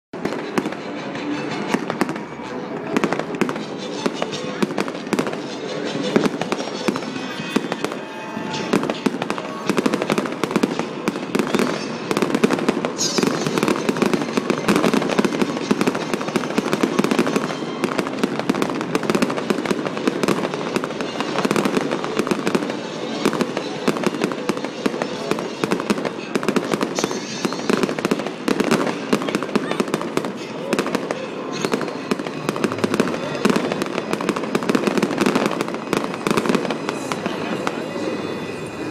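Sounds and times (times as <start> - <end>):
fireworks bangs and crackles: 0.2 - 38.9.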